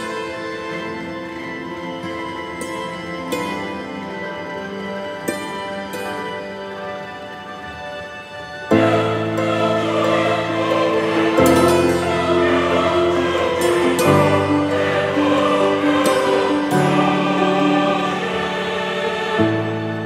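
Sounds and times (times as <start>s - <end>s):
choral singing in held chords: 0.0s - 20.0s.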